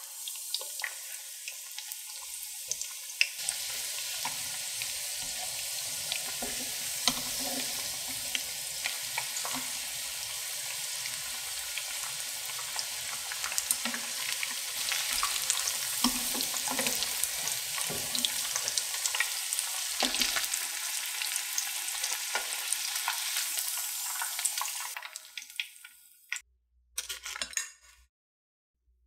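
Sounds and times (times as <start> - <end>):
oil sizzling and popping: 0.0 - 26.4.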